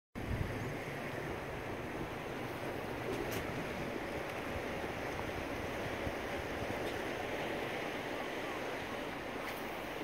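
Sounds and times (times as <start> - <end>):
sea water washing around boat: 0.2 - 10.0
wind buffeting microphone: 0.2 - 10.0.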